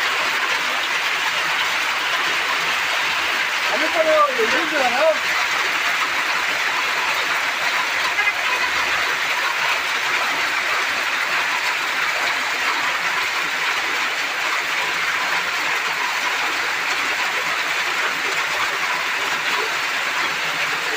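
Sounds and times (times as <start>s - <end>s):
hail and rain pelting: 0.0s - 20.9s.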